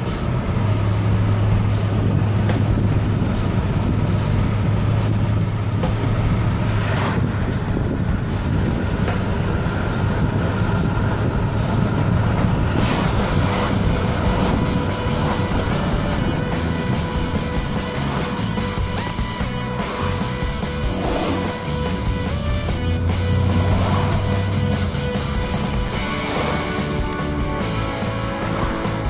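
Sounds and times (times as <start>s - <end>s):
car cabin road and engine drone: 0.0s - 29.0s.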